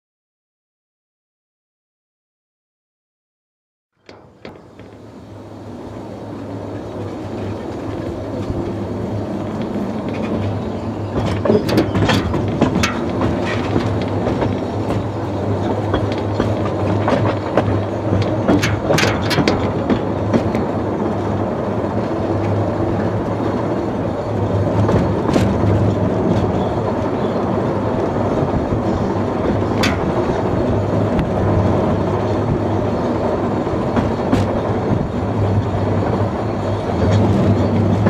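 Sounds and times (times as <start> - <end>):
locomotive running on track: 4.0 - 38.0
wheels clicking over rail joints: 4.0 - 38.0.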